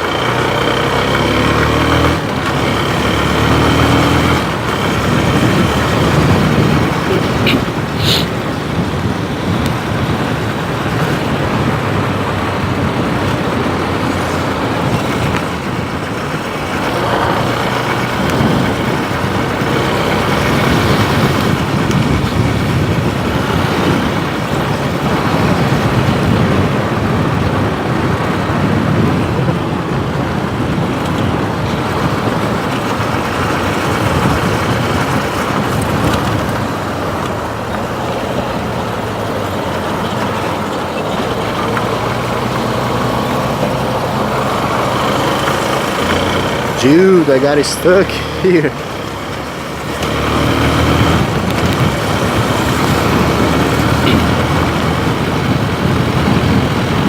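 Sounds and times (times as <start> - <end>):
motorcycle running: 0.0 - 57.0
rushing wind: 0.0 - 57.0
traffic noise: 0.0 - 57.0.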